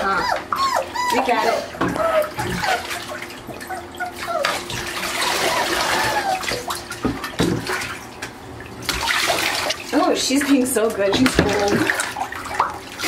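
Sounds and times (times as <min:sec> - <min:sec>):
water splashing in bathtub: 0:00.0 - 0:13.0.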